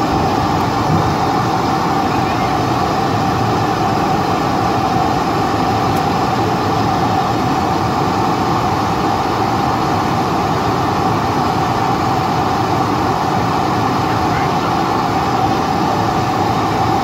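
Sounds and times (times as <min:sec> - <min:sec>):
jet engines idle drone: 0:00.0 - 0:17.0.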